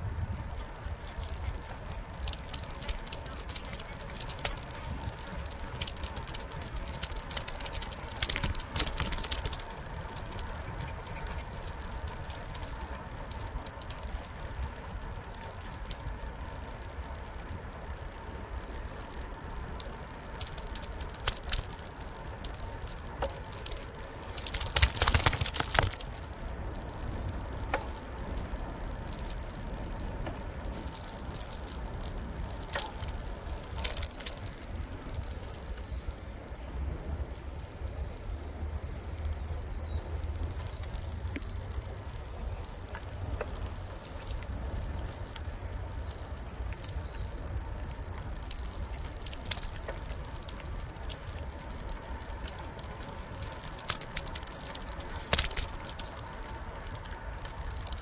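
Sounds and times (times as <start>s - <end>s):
bicycle clicks and rattles: 0.0s - 58.0s
wind and tyre rumble: 0.0s - 58.0s.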